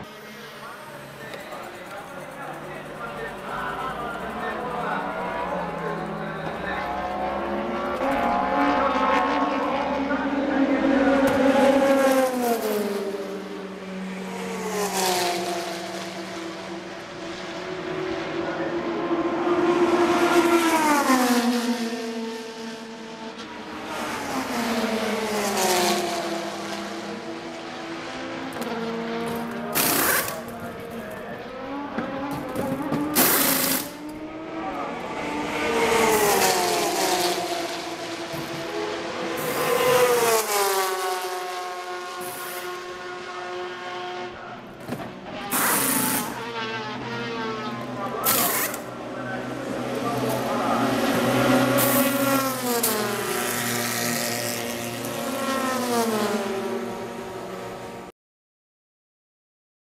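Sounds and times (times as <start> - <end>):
race car engines passing: 0.0 - 58.1.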